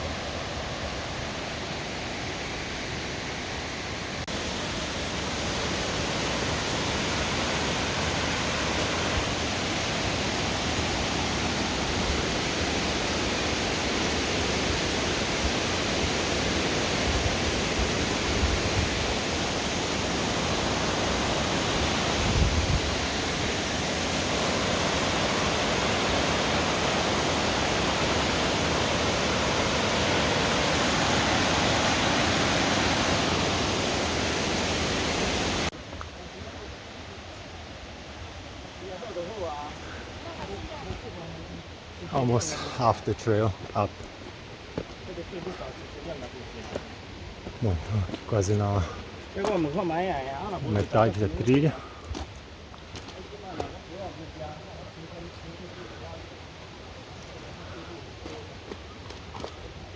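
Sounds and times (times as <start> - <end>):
rushing stream water: 0.0 - 59.9.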